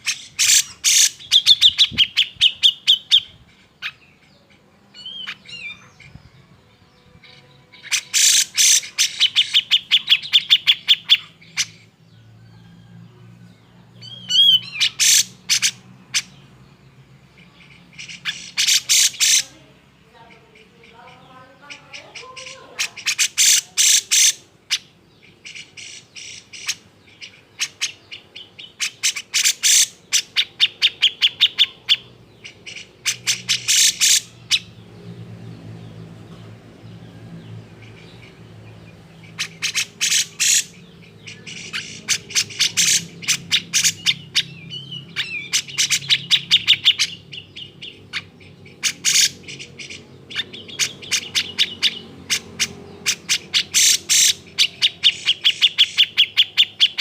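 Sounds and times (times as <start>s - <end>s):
bird harsh chattering call: 0.0s - 6.2s, 7.2s - 12.0s, 14.0s - 16.4s, 17.4s - 19.7s, 20.3s - 34.8s, 37.8s - 57.0s.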